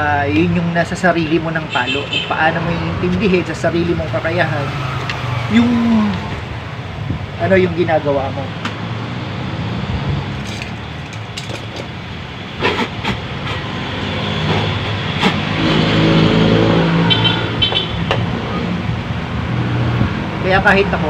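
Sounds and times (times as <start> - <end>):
road traffic: 0.0 - 21.0
vehicle engine running nearby: 2.4 - 21.0.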